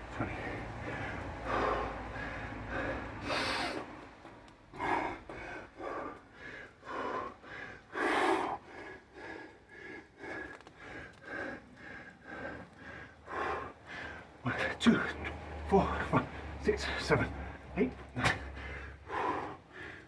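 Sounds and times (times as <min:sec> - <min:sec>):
man breathing hard: 0:00.0 - 0:20.0.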